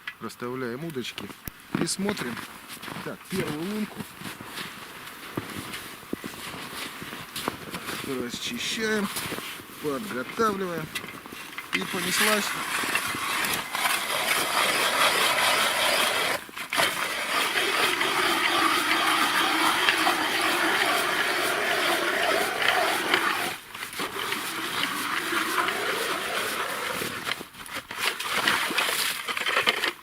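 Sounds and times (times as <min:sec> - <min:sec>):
ice auger grinding through ice: 0:01.8 - 0:30.0.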